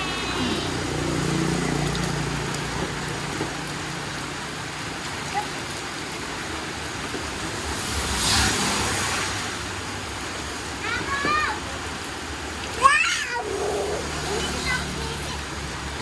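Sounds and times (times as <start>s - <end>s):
splashing water rush: 0.0s - 16.0s
steady rain falling: 0.0s - 16.0s.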